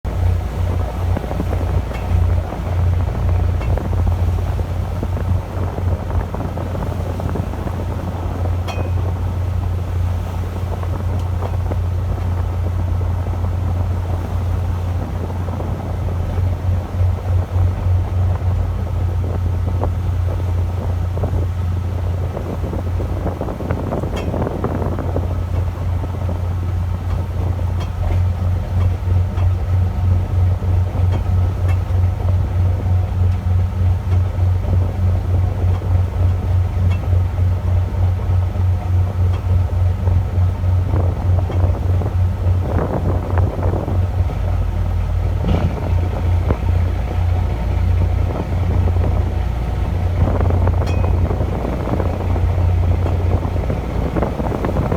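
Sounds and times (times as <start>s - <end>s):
boat engine humming: 0.0s - 54.9s
water noise: 0.0s - 54.9s
wind: 0.0s - 54.9s.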